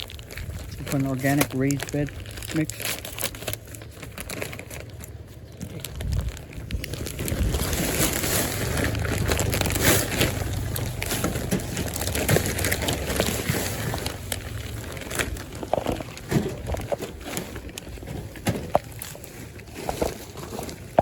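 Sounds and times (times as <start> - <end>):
plastic bag crinkling: 0.0 - 21.0
soil rustling and crunching: 0.0 - 21.0.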